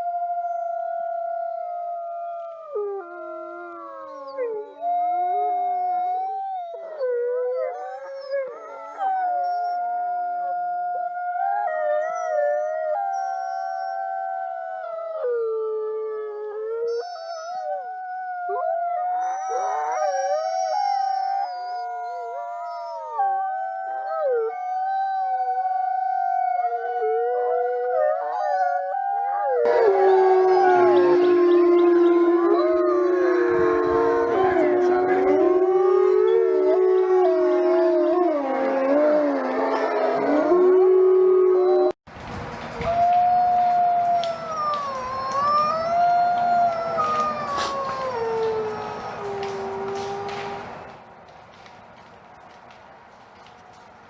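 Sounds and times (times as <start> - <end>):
wolves howling: 0.0 - 42.0, 42.9 - 50.9.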